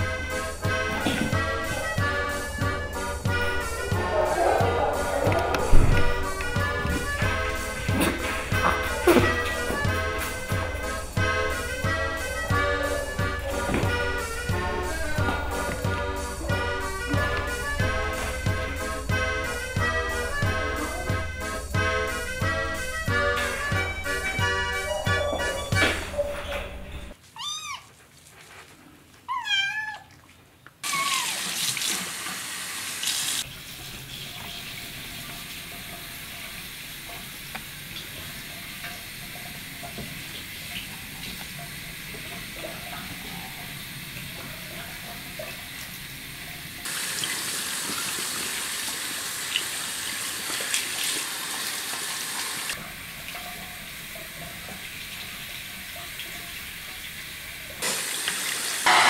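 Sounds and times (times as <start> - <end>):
faucet water splashing: 0.0 - 24.7, 30.0 - 59.0.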